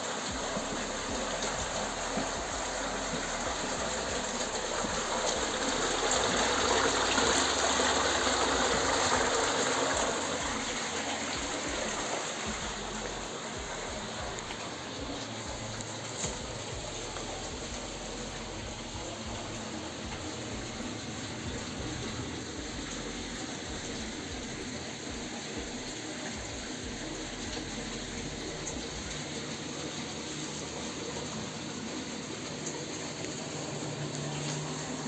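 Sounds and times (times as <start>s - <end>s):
water flowing through stone channel: 0.0s - 35.0s.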